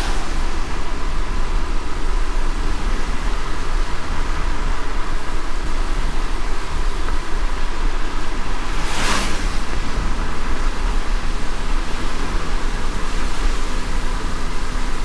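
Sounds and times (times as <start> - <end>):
hiss of rain on wet road: 0.0 - 15.0
road rumble: 0.0 - 15.0.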